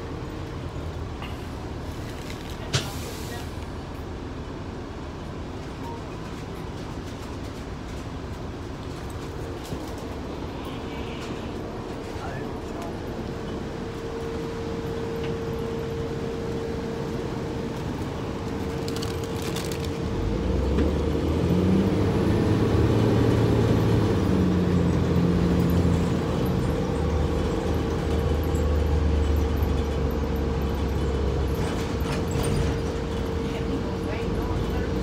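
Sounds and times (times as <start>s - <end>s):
bus engine drone: 0.0s - 35.0s.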